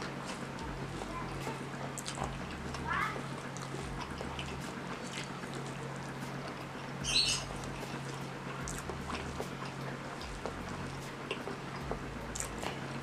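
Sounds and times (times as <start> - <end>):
person chewing: 0.0 - 13.0
steady low hum: 0.0 - 13.0.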